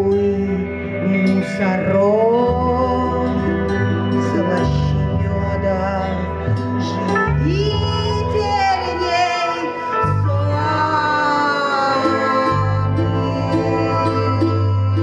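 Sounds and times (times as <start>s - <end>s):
sliding wordless high tones: 0.0s - 15.0s
sustained low bass notes: 0.0s - 15.0s.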